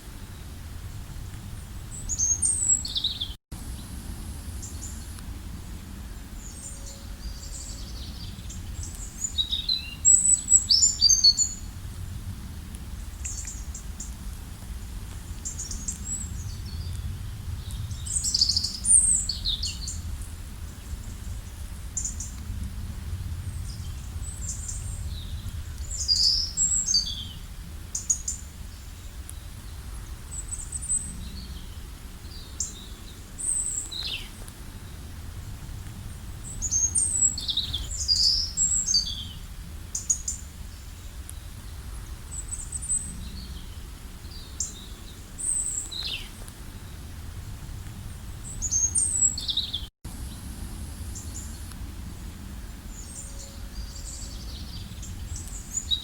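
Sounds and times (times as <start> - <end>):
songbirds chirping and trilling: 1.5 - 11.8, 14.8 - 22.4, 23.4 - 47.2, 48.0 - 56.0
steady low rumble: 3.6 - 10.7, 11.5 - 39.9, 40.5 - 55.9.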